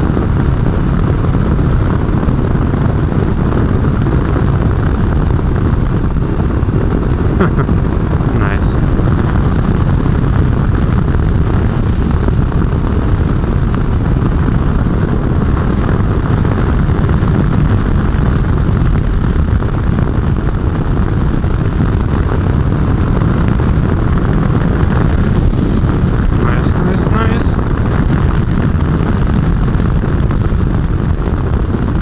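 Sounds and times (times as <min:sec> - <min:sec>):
motorcycle engine riding: 0:00.0 - 0:32.0
road noise: 0:00.0 - 0:32.0
wind roar on microphone: 0:00.0 - 0:32.0.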